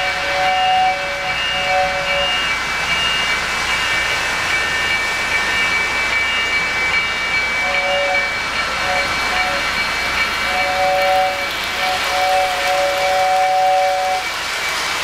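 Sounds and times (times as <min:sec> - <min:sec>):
high steady tones: 0:00.0 - 0:14.8
model train wheels and motors: 0:00.0 - 0:15.0.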